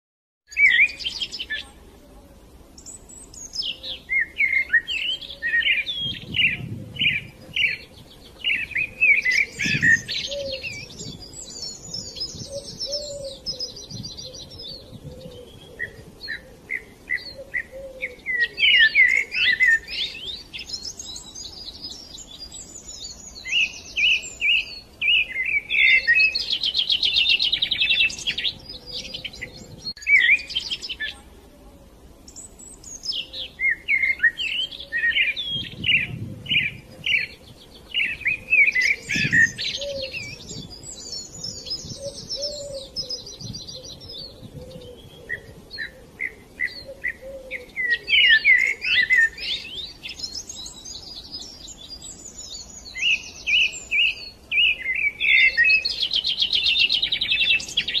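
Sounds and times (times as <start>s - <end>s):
songbird chirps and trills: 0.5s - 58.0s.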